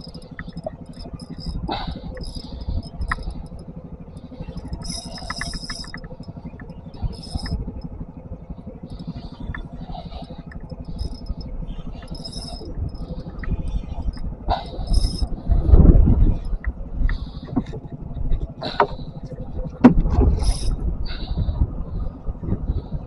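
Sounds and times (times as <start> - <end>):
scattered clicks: 0.0 - 8.0, 8.8 - 20.8
engine running with low pulse: 0.0 - 23.0.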